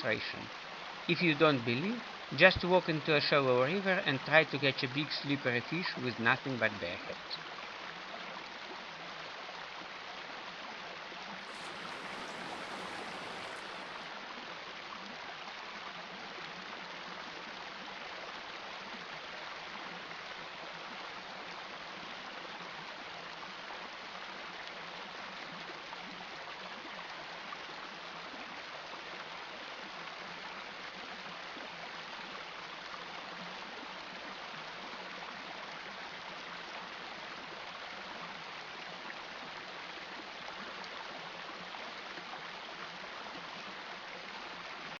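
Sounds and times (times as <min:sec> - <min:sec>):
shallow river running: 0:00.0 - 0:45.0.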